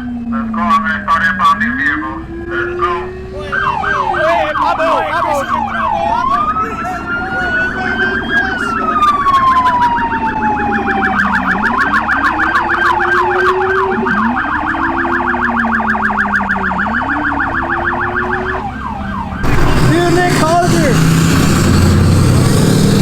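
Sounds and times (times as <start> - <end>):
lower-pitched siren wailing: 0.0 - 23.0
police siren wailing and yelping: 0.0 - 23.0.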